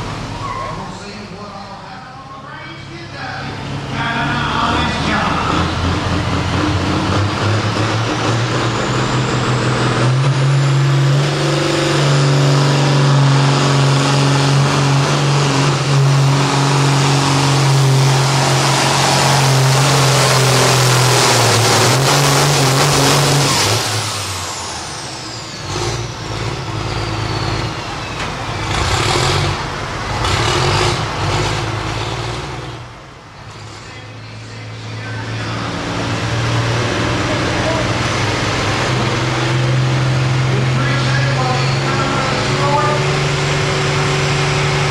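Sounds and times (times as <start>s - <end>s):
diesel tractor engine: 0.0s - 44.9s.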